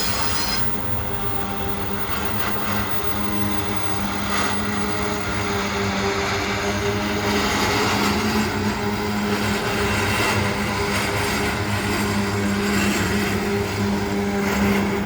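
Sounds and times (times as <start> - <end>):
diesel train engine drone: 0.0 - 15.0
train rumble and rail noise: 0.0 - 15.0.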